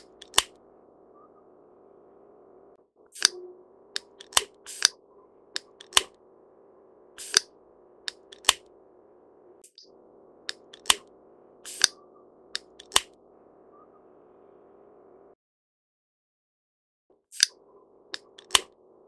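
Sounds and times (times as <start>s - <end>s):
faint steady hum: 0.0s - 15.4s, 17.5s - 19.0s.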